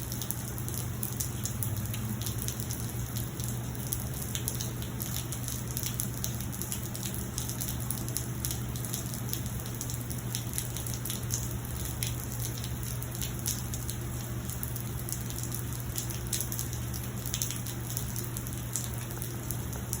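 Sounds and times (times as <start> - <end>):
constant low hum: 0.0 - 20.0
raindrops striking close by: 0.0 - 20.0
steady rain: 0.0 - 20.0.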